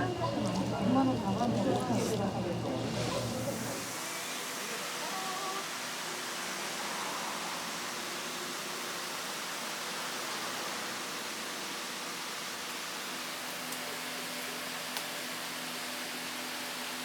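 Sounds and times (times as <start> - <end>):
restaurant room noise hiss: 0.0 - 17.0.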